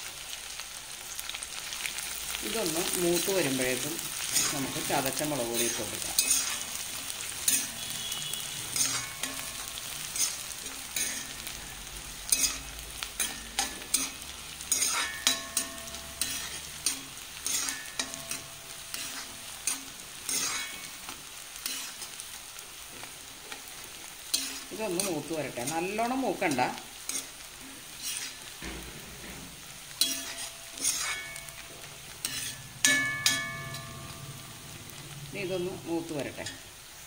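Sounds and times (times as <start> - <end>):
shallots sizzling in hot oil: 0.0 - 37.0
spoon scraping and knocking pan: 2.6 - 11.6, 12.3 - 22.2, 22.9 - 34.8.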